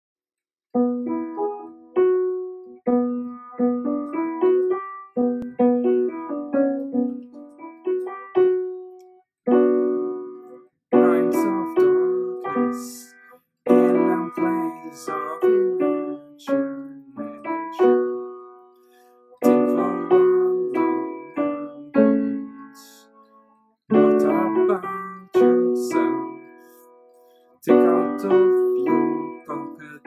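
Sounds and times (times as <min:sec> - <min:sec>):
piano melody: 0:00.7 - 0:30.0.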